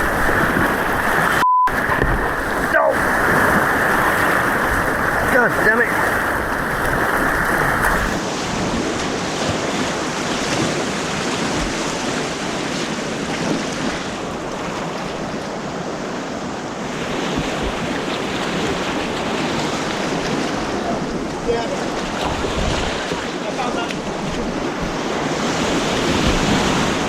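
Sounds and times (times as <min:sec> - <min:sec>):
white water rushing: 0:00.0 - 0:27.0.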